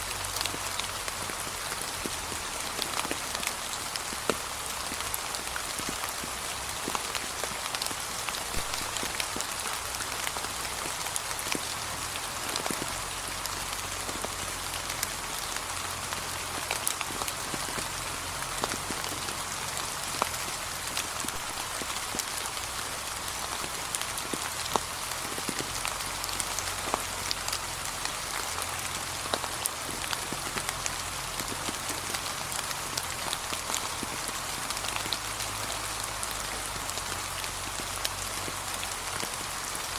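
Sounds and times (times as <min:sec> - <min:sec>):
gentle rain on leaves: 0:00.0 - 0:39.9.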